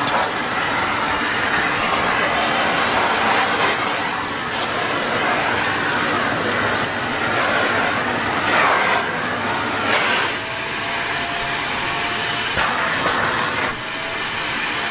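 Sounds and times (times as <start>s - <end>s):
vacuum cleaner running: 0.0s - 14.9s.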